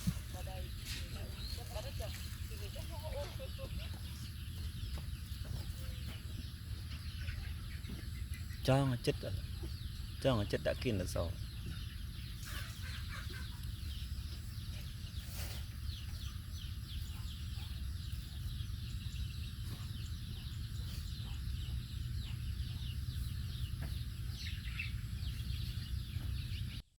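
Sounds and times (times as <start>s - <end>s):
steady low rumble: 0.0s - 26.8s
young animals squeaking: 0.0s - 26.8s.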